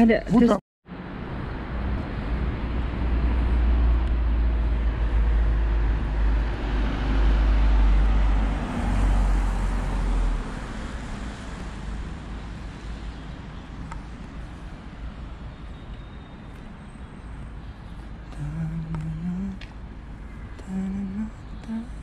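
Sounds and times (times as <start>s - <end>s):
city street traffic rumble: 0.0s - 22.0s.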